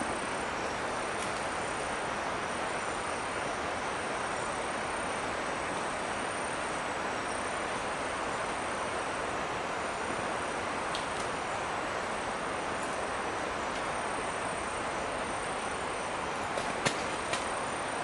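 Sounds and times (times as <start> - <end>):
rainforest background noise: 0.0 - 18.0.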